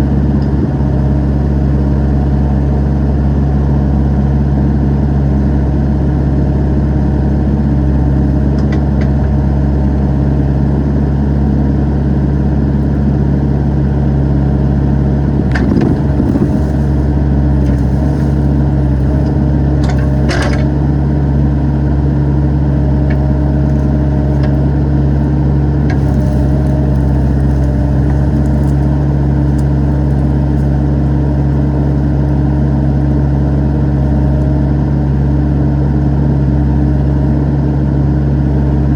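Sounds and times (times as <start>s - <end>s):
excavator engine under load: 0.0s - 38.9s.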